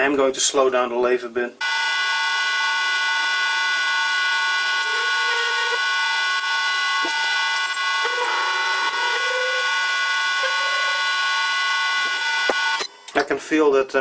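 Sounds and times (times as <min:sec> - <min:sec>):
drill cut squealing: 0:01.6 - 0:13.2
lathe whining: 0:01.6 - 0:13.2.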